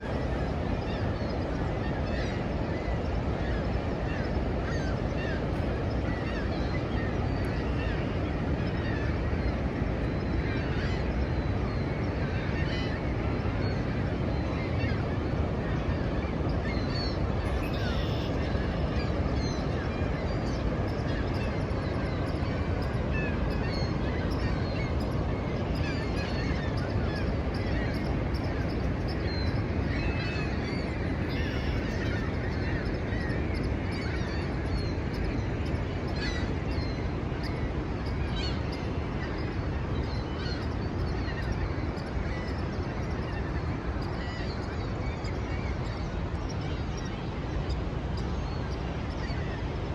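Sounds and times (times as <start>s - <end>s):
bird calls: 0.1s - 49.6s.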